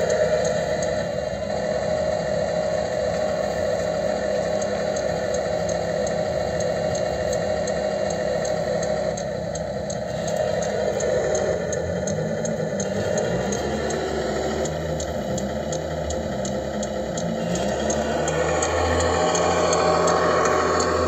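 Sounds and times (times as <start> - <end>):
light regular ticking: 0.0 - 21.0
simulated diesel engine idling: 0.0 - 21.0.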